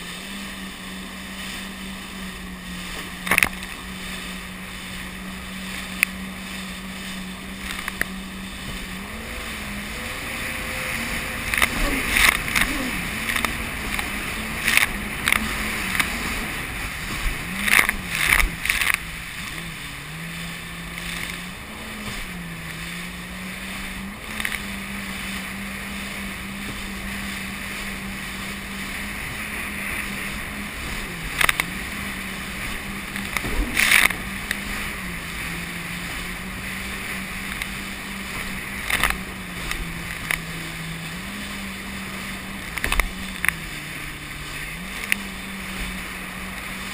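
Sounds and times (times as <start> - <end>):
jet ski engine running: 0.0 - 46.9
sharp water splashes: 0.0 - 46.9.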